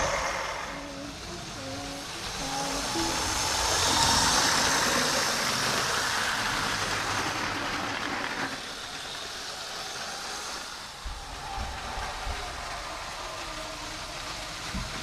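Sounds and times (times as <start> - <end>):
toy train motors running: 0.0 - 15.0.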